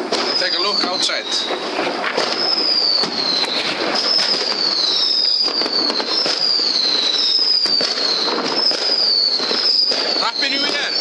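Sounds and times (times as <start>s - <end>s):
descending firework whistle: 0.0s - 11.0s
fireworks crackling and banging: 0.0s - 11.0s.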